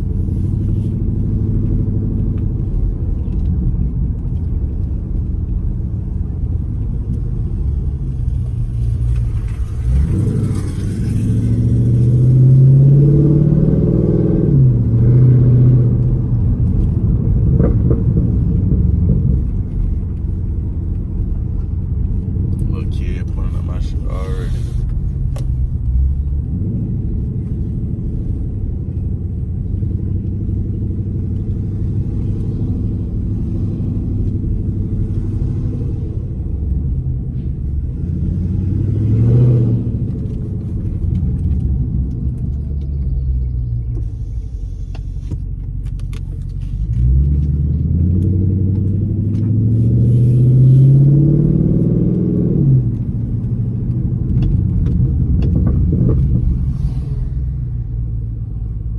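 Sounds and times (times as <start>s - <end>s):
car engine rumbling and revving: 0.0s - 58.9s.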